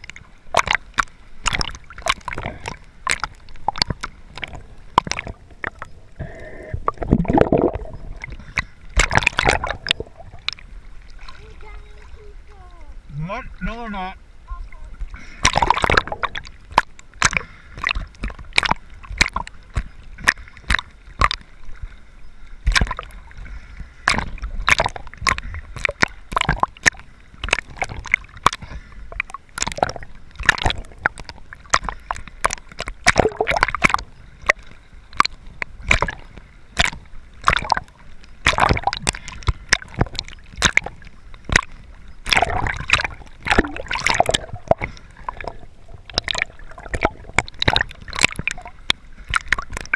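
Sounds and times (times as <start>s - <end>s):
sharp underwater clicks: 0.0s - 10.7s, 15.3s - 21.8s, 22.6s - 23.3s, 24.0s - 49.9s
underwater sloshing and gurgling: 0.0s - 49.9s.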